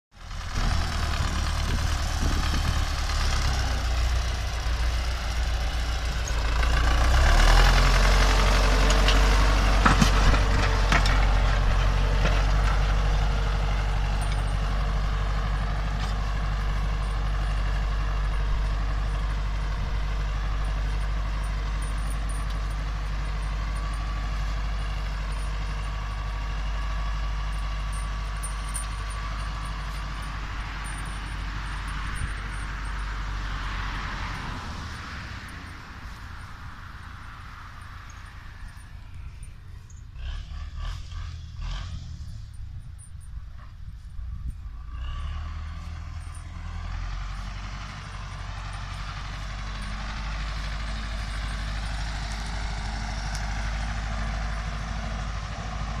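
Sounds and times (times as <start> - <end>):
tractor diesel engine under load: 0.1 - 56.0.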